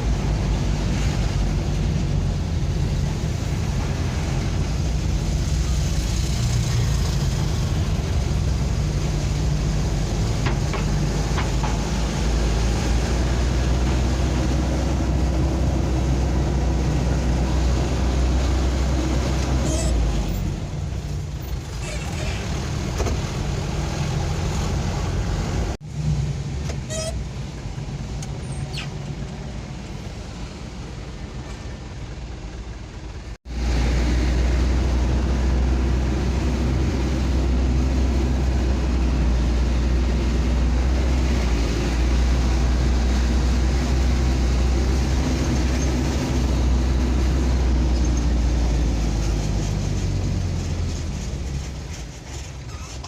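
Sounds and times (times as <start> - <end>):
vehicle engine and road noise: 0.0 - 53.0.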